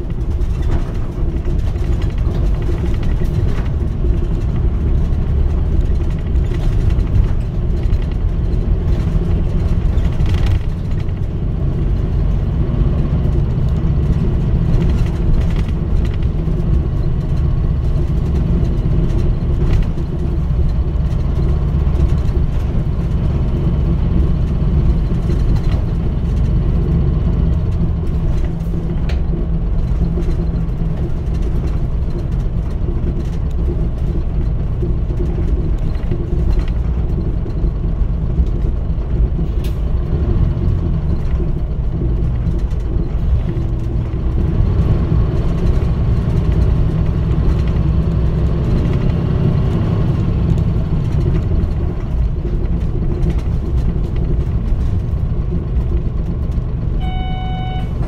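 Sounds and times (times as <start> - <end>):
loud diesel bus engine: 0.0 - 58.0
road rumble: 0.0 - 58.0.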